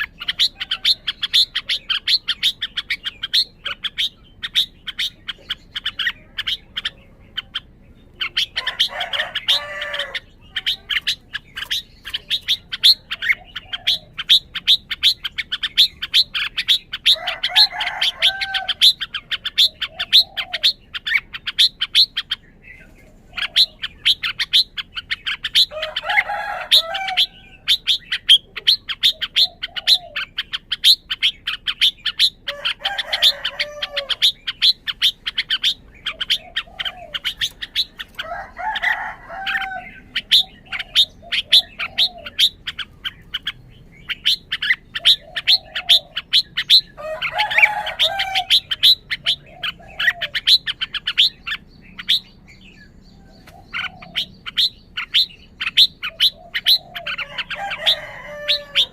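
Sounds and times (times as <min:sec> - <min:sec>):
bird warbling song: 0:00.0 - 0:58.9.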